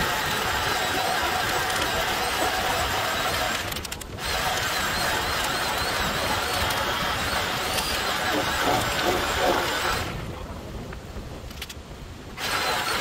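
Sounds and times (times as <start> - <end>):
reciprocating saw cutting: 0.0 - 10.2, 12.4 - 13.0.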